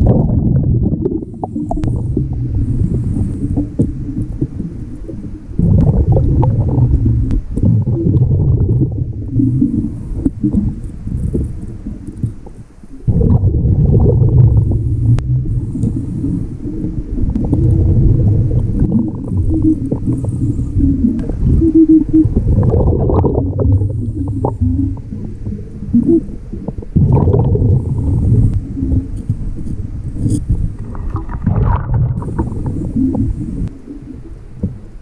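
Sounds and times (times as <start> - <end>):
muffled underwater rumbling: 0.0 - 35.0.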